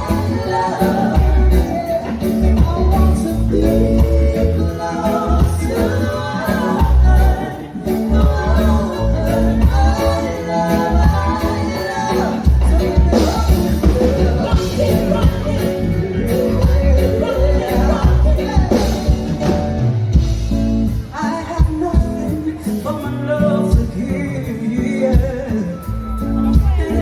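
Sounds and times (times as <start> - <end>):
heavy bass line: 0.0 - 22.6, 25.1 - 27.0
band music with singer: 0.0 - 27.0.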